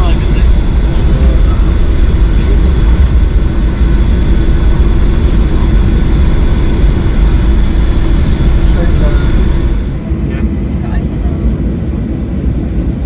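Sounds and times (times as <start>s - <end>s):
aircraft low rumble: 0.0s - 13.0s.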